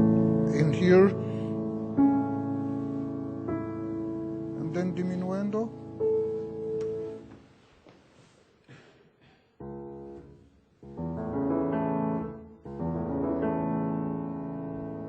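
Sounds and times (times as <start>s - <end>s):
soft piano chords: 0.0s - 7.5s, 9.6s - 15.0s.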